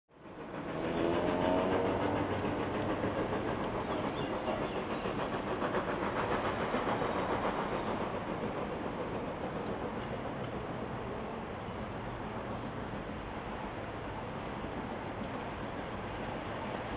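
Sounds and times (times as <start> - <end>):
steam locomotive exhaust: 0.1 - 16.9.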